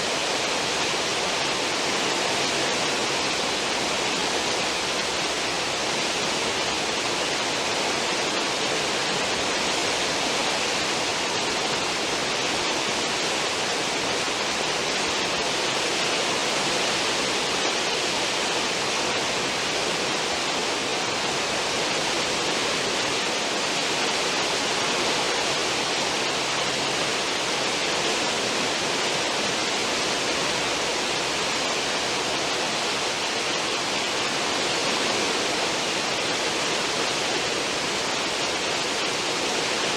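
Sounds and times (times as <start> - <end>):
ship wake rushing water: 0.0 - 39.9.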